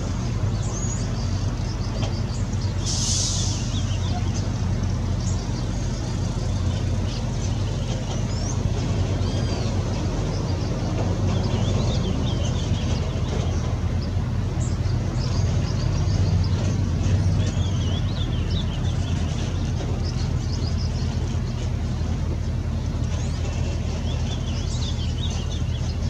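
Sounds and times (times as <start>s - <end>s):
bird singing warbled phrases: 0.0s - 26.0s
steady low rumble: 0.0s - 26.0s.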